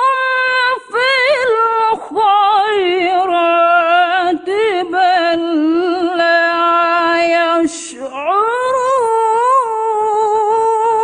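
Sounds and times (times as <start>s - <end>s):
woman reciting melodically: 0.0s - 11.0s.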